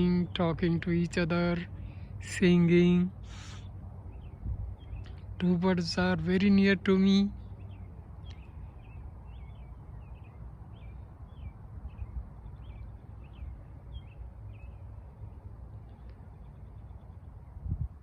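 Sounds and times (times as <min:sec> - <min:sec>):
bird chirping: 0:00.0 - 0:18.0
steady low rumble: 0:00.0 - 0:18.0.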